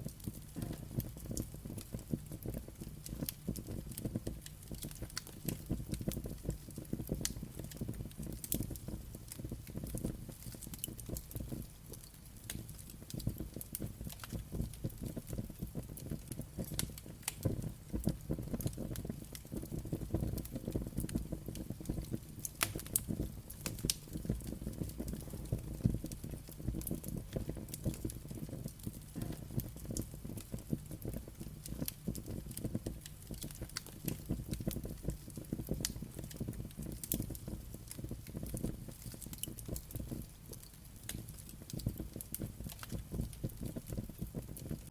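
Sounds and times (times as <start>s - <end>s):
low rumble of flames: 0.0s - 44.9s
wood fire crackling and popping: 0.0s - 44.9s.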